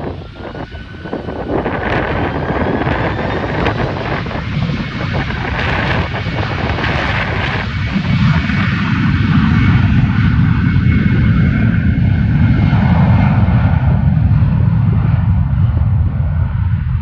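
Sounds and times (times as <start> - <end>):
jet airliner passing: 0.0 - 17.0
wind buffeting microphone: 0.0 - 17.0.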